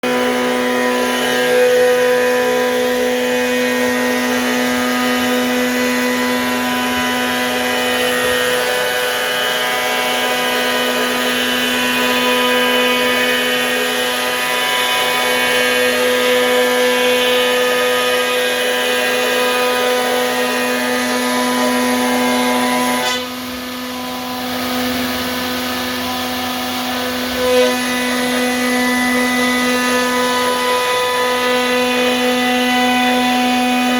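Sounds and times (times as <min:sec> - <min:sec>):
router spindle whine cutting wood: 0:00.0 - 0:33.9.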